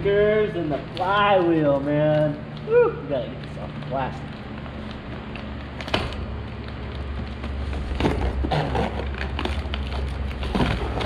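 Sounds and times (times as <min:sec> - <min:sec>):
plastic wrapping crinkling: 0:00.0 - 0:11.0
steady low hum: 0:00.0 - 0:11.0.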